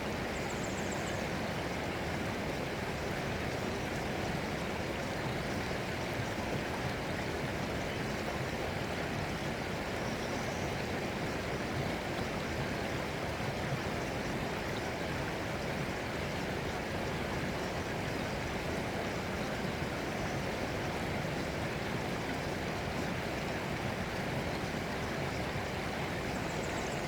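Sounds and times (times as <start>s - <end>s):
water flowing steadily: 0.0s - 27.0s.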